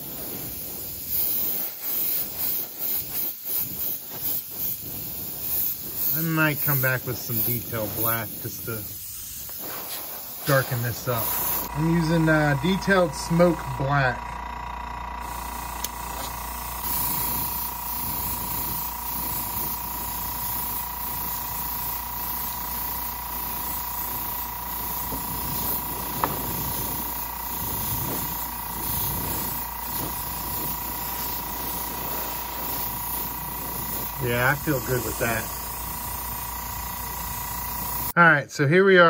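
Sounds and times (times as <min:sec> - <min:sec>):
airbrush spraying hiss: 0:00.0 - 0:14.2, 0:15.2 - 0:38.2.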